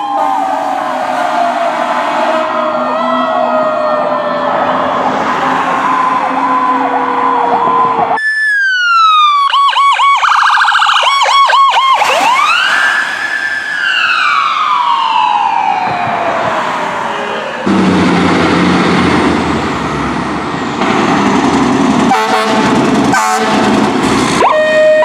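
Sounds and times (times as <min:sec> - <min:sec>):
electronic emergency vehicle sirens: 0:00.0 - 0:20.8, 0:23.1 - 0:25.0.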